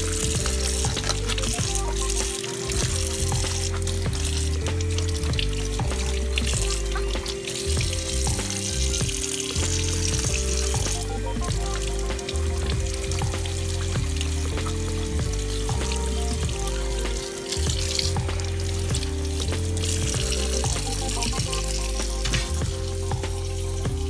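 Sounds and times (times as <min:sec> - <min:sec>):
background music with bass line: 0:00.0 - 0:24.0.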